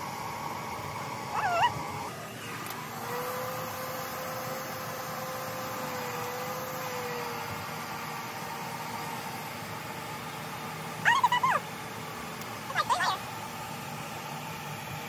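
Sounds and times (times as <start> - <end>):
hair dryer air rush: 0.0 - 15.0
thin steady whine: 0.0 - 15.0.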